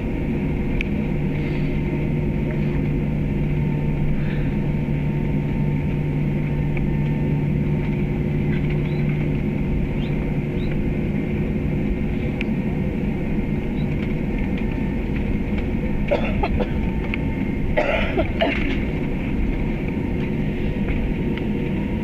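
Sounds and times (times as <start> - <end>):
jet engine cabin drone: 0.0 - 22.0.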